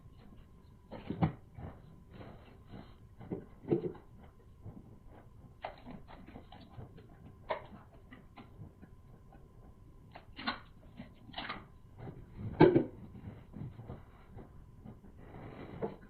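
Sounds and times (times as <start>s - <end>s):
wet chewing and mouth sounds: 0.0s - 15.2s.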